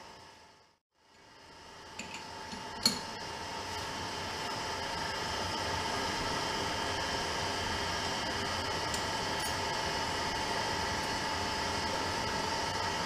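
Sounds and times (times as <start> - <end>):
motor or fan humming: 0.0 - 13.0.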